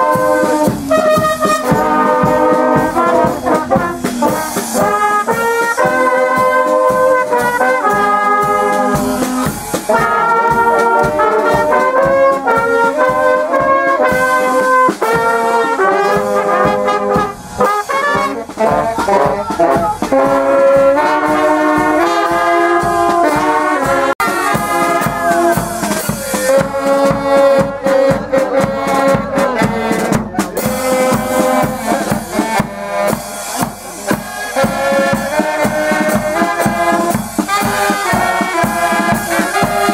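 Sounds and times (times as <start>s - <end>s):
brass band playing lively tune: 0.0s - 39.9s.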